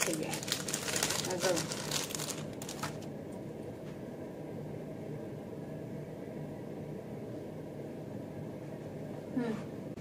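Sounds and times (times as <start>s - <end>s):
room noise hum and hiss: 0.0s - 10.0s.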